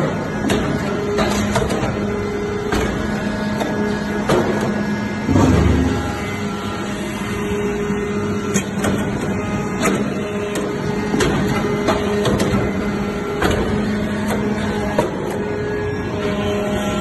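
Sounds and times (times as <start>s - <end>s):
hydraulic press machine hum: 0.0s - 17.0s.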